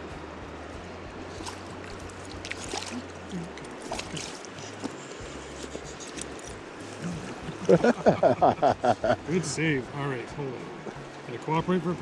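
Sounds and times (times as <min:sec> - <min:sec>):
low steady hum: 0:00.0 - 0:11.2
flowing river water: 0:00.0 - 0:12.0.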